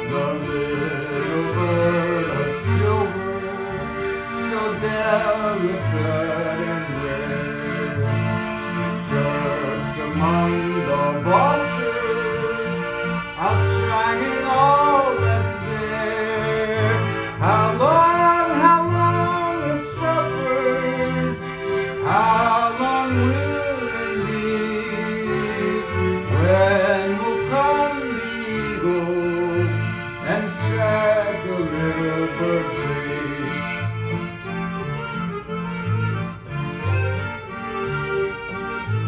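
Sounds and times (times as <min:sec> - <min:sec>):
man singing: 0:00.0 - 0:08.0, 0:08.7 - 0:33.8
accordion melody: 0:00.0 - 0:39.0.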